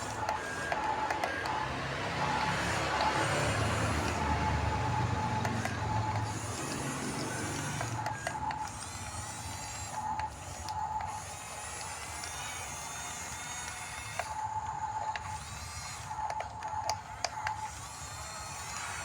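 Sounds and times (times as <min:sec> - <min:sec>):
electric motors whining: 0:00.0 - 0:19.0
sharp clicks: 0:00.0 - 0:19.0.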